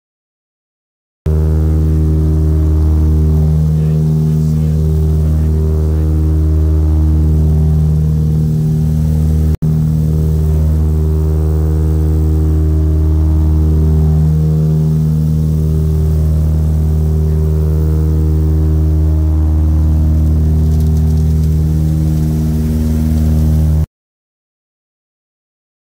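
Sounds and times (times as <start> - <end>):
propeller plane cabin drone: 1.3 - 23.9.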